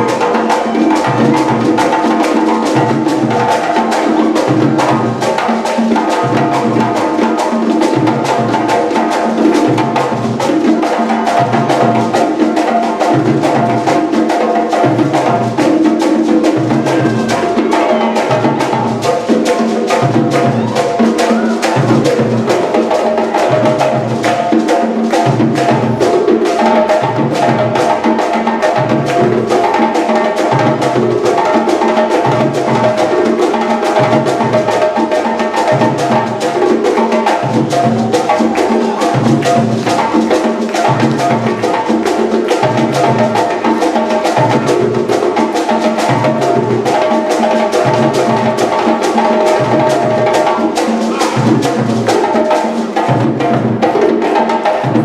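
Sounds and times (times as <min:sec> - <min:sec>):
fast hand-drum strikes: 0:00.0 - 0:55.0.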